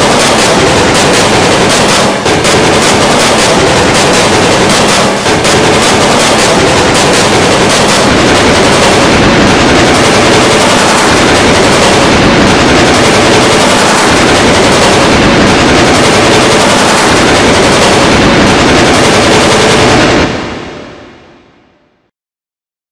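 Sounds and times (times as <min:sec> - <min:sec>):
distorted wall of noise: 0:00.0 - 0:22.1.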